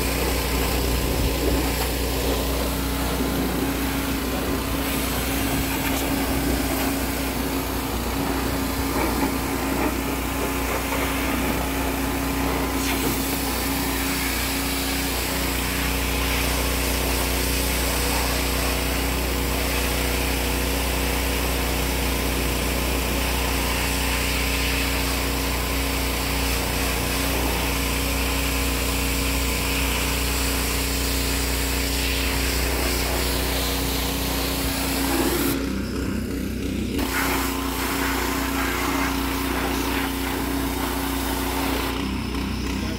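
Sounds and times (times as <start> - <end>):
pressure washer jet hissing: 0.0 - 36.1, 37.0 - 42.9.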